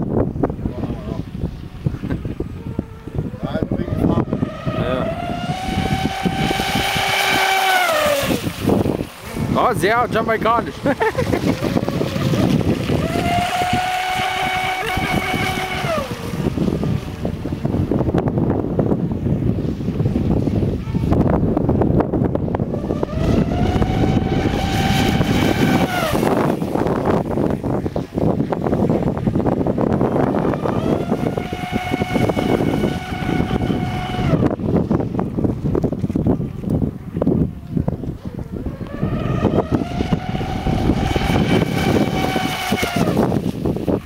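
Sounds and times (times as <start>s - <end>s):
wind noise on microphone: 0.0s - 44.0s
electric boat motor whining: 0.6s - 19.3s, 22.5s - 44.0s.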